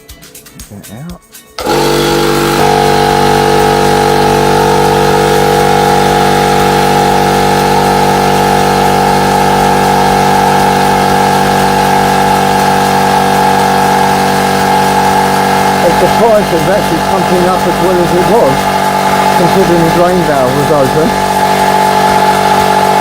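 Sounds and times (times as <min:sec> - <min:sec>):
air compressor running: 0:01.6 - 0:23.0.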